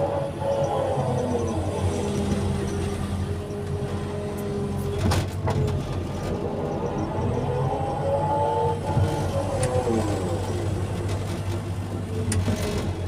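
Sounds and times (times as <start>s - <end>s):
diesel engine under load: 0.0s - 13.0s
hydraulics whining: 0.0s - 13.0s.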